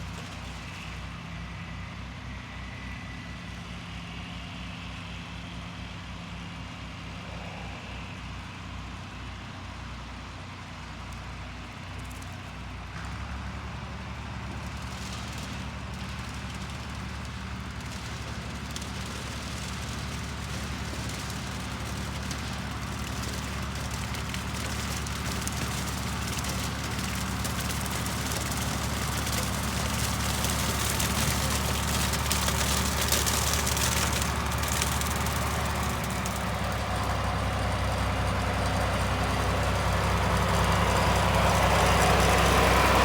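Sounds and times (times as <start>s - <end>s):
tractor engine with mower: 0.0s - 43.0s.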